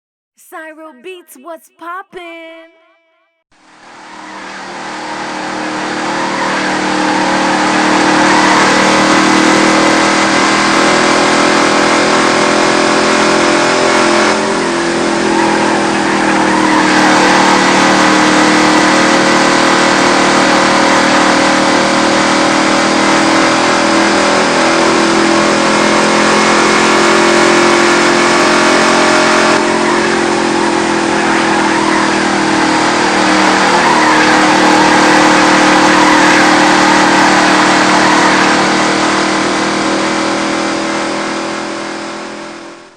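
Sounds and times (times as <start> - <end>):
race car engines droning: 3.6 - 42.9.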